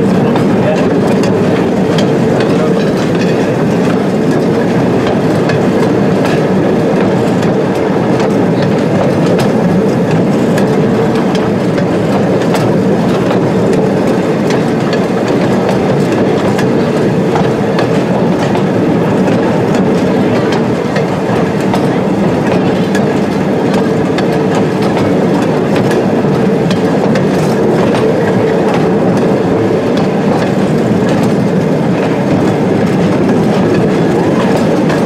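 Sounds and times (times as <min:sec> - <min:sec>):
clicks and knocks from track: 0:00.0 - 0:35.0
train wheels rumbling on rails: 0:00.0 - 0:35.0.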